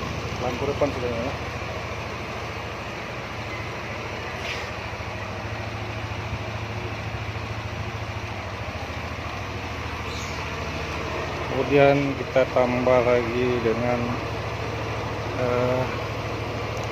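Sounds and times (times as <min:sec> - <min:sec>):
scooter engine idling: 0:00.0 - 0:16.9.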